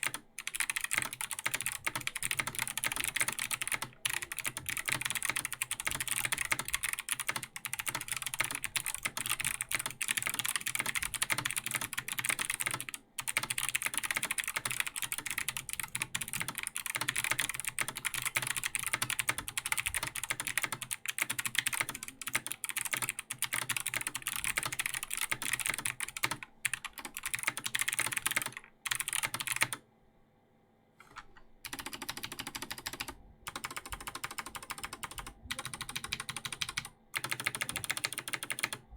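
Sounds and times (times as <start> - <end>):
fast typing on mechanical keyboard: 0.0 - 29.8, 31.7 - 38.8.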